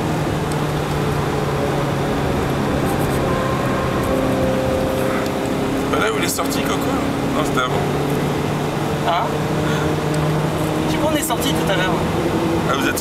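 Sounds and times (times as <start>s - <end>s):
car engine from inside cabin: 0.0s - 13.0s
road noise: 0.0s - 13.0s.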